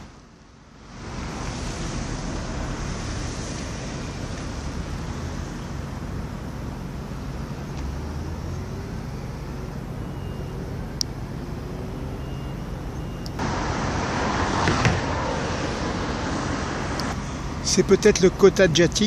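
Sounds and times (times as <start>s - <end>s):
distant road traffic rumble: 0.0s - 19.0s
passing vehicle drone: 0.8s - 18.7s.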